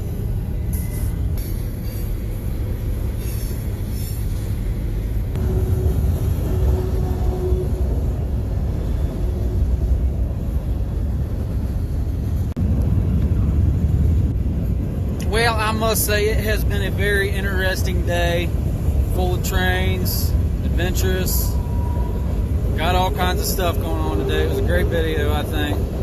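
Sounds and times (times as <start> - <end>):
train rumbling by: 0.0 - 26.0.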